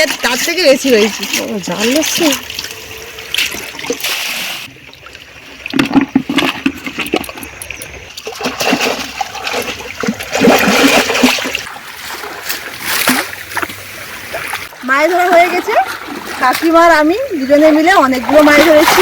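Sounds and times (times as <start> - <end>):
river water splashing: 0.0 - 19.0.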